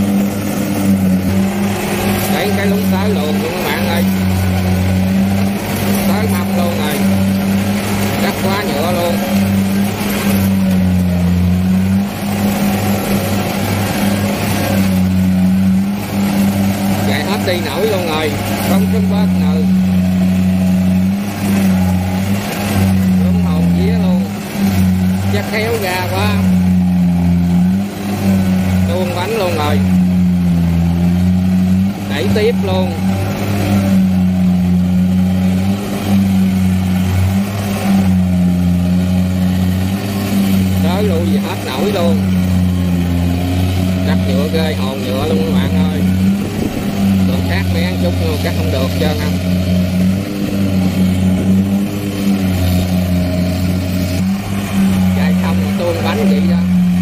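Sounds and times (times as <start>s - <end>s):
diesel engine running hard: 0.0s - 57.0s.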